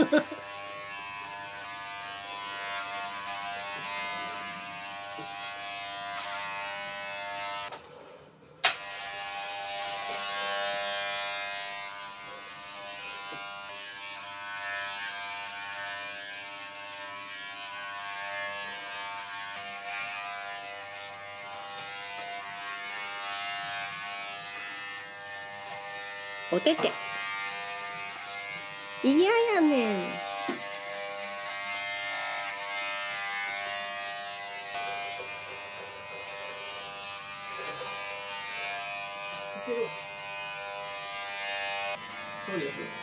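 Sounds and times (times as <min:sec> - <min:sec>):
electric clipper buzzing: 0:00.0 - 0:07.8, 0:08.6 - 0:43.0.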